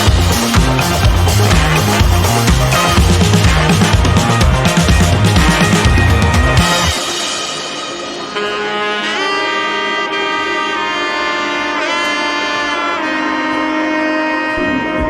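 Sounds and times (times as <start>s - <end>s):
saxophone long notes: 0.0s - 15.0s
sustained chords: 0.0s - 15.0s.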